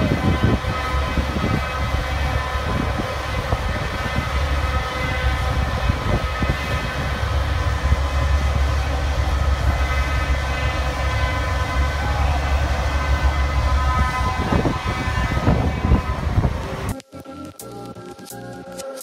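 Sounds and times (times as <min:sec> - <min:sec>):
large engine droning: 0:00.0 - 0:16.9
steady whine: 0:00.0 - 0:19.0.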